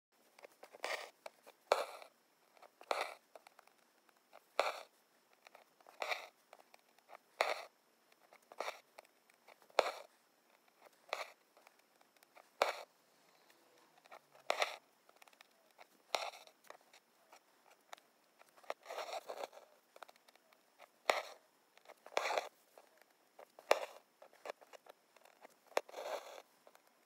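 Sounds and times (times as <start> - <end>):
needle and thread rasping through fabric: 0.3 - 12.9, 13.9 - 26.9.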